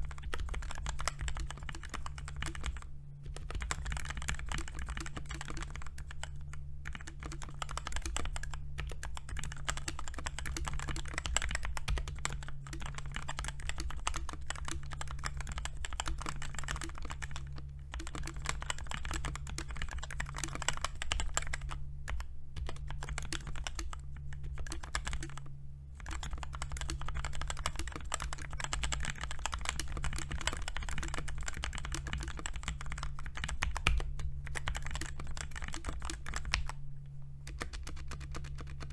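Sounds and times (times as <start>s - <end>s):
typing on mechanical keyboard: 0.1s - 25.4s, 26.0s - 36.8s, 37.4s - 38.9s.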